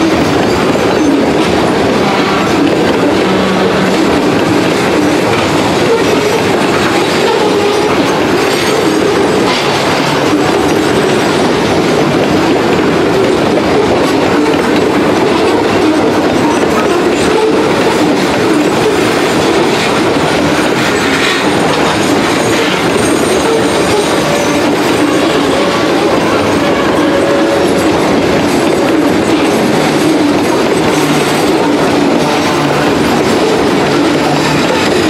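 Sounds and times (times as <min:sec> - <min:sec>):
freight train rumbling past: 0:00.0 - 0:35.0
wheels clattering over rails: 0:00.0 - 0:35.0.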